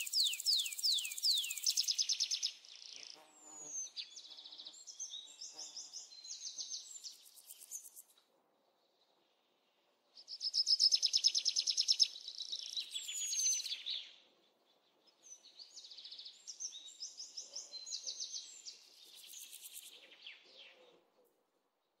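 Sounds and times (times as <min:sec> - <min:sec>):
songbird singing: 0:00.0 - 0:08.1, 0:08.8 - 0:22.0.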